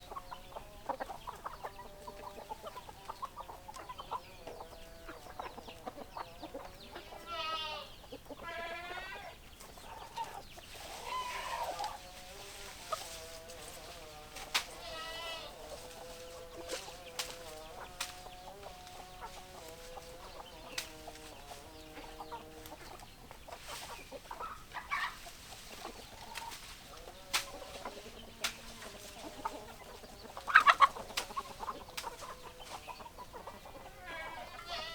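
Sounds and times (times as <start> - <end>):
chicken wavering calls: 0.0 - 34.9
hens clucking: 0.0 - 34.9.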